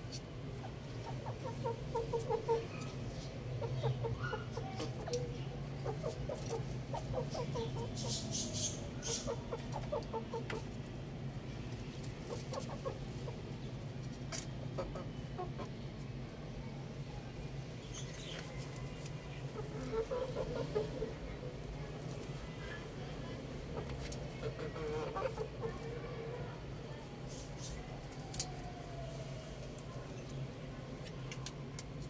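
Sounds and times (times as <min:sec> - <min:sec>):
young roosters clucking: 0:00.0 - 0:32.0.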